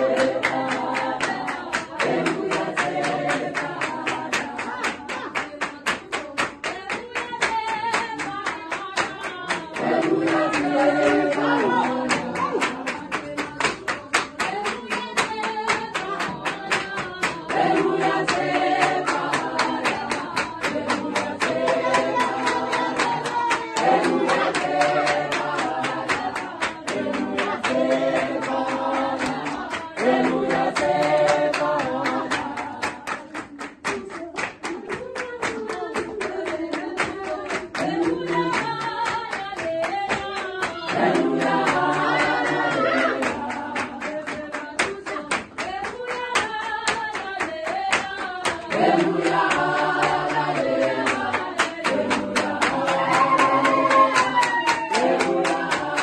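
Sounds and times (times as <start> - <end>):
congregation singing in harmony: 0.0 - 5.1, 9.3 - 13.4, 15.3 - 33.0, 35.6 - 44.8, 46.2 - 56.0
rhythmic handclapping: 0.0 - 56.0.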